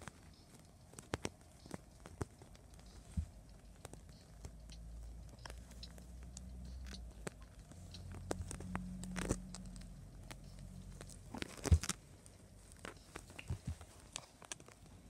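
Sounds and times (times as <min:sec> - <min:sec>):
kittens pawing on blanket: 0:00.0 - 0:04.7, 0:07.0 - 0:15.0
faint low hum: 0:00.0 - 0:15.0.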